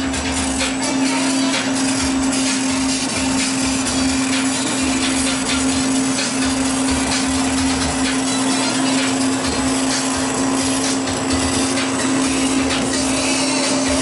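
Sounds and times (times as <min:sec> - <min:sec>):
laser engraver humming: 0:00.0 - 0:14.0.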